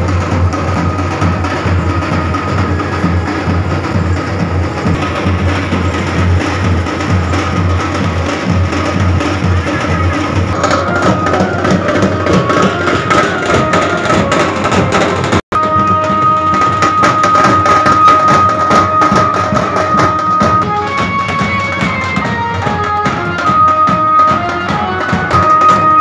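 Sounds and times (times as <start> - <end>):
high stepping melody: 0.0 - 26.0
large drums beating: 0.0 - 26.0.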